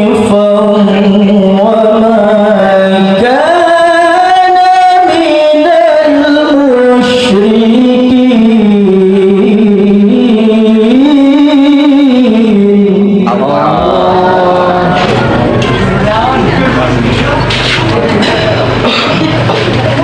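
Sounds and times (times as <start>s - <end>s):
man reciting melodically: 0.0s - 19.4s.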